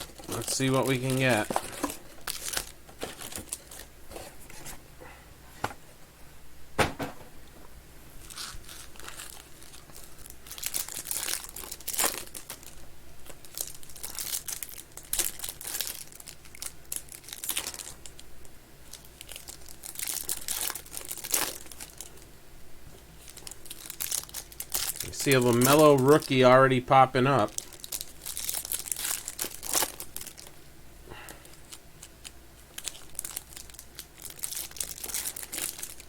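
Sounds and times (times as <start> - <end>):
plastic wrapping tearing and crinkling: 0.0 - 3.9, 8.2 - 22.2, 23.2 - 30.6, 31.5 - 36.0.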